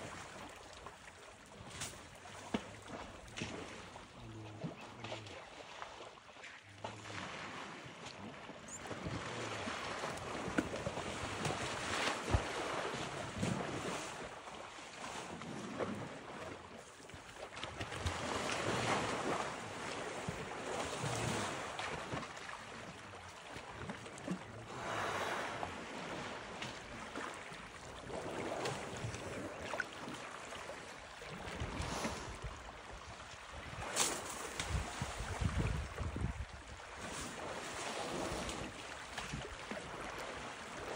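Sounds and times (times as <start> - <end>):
water sloshing and splashing: 0.0 - 40.9.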